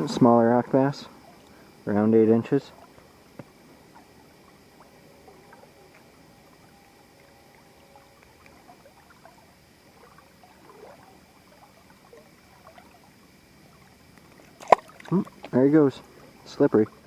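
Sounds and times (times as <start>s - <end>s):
faint high-pitched hum: 0.0s - 17.0s
river water trickling and dripping: 0.0s - 17.0s.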